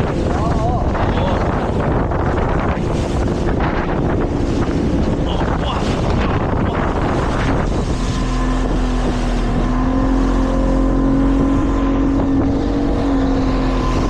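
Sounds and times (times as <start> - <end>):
motorboat engine running: 0.0 - 14.0
wind and water rushing: 0.0 - 14.0.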